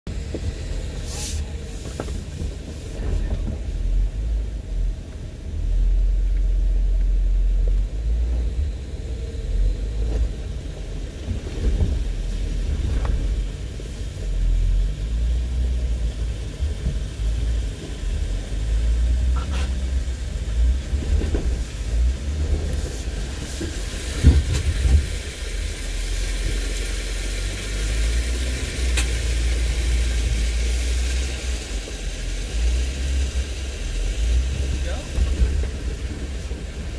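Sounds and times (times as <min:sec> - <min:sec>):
off-road vehicle engine rumbling: 0:00.0 - 0:36.9.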